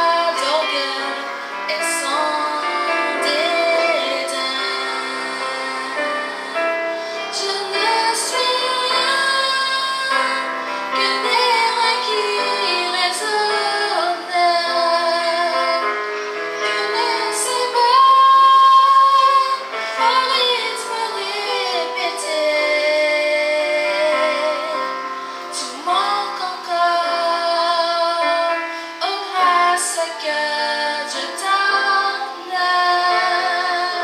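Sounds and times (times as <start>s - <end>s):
keyboard: 0.0s - 34.0s
woman singing into microphone: 0.0s - 34.0s.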